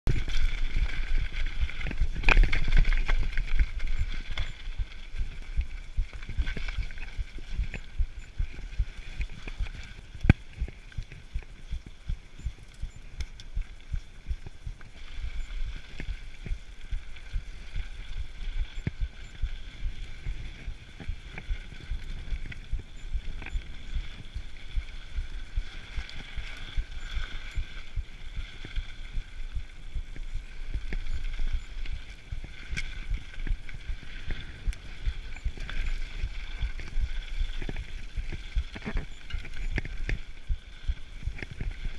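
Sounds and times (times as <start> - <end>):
bike tyres rumbling on dirt: 0.1 - 41.9.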